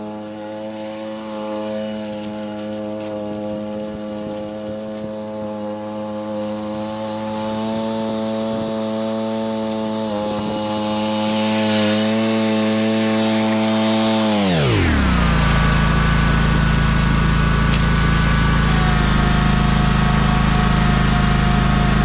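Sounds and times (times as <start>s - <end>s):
mower engine at high throttle: 0.0s - 22.0s.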